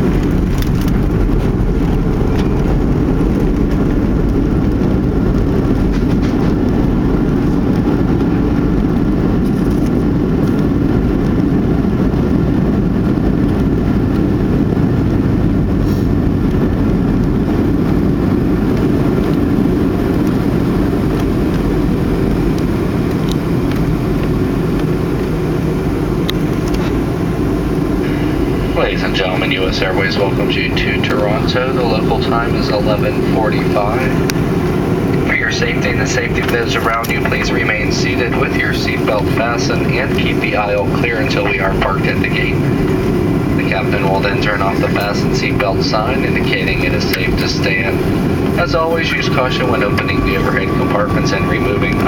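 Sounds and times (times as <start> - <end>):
jet engine rumble in cabin: 0.0 - 52.0
wheel rumble: 0.0 - 52.0.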